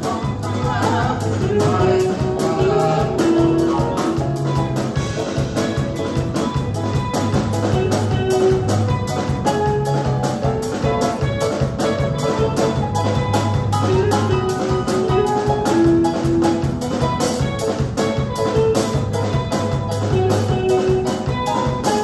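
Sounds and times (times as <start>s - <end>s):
drum kit beat: 0.0s - 22.0s
praise band playing: 0.0s - 22.0s.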